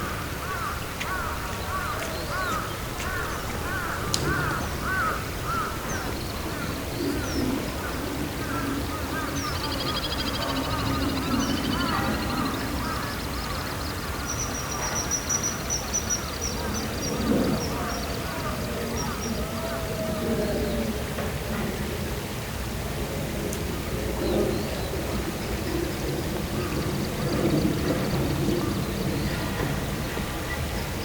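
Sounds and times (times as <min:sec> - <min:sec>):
birds calling: 0:00.0 - 0:21.7, 0:23.0 - 0:31.0.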